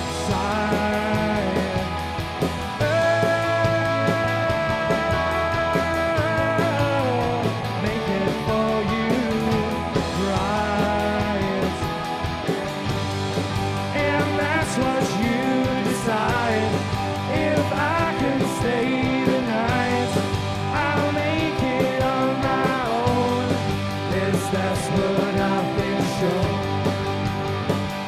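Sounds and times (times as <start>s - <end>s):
pop-rock band playing: 0.0s - 28.0s.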